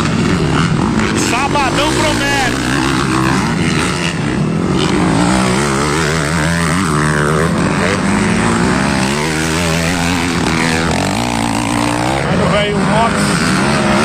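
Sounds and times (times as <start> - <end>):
motocross bikes racing past: 0.0 - 14.0.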